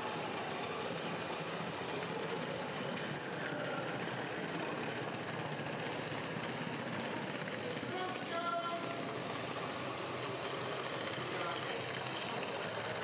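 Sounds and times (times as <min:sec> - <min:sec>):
idling engine-like sound: 0:00.0 - 0:13.0.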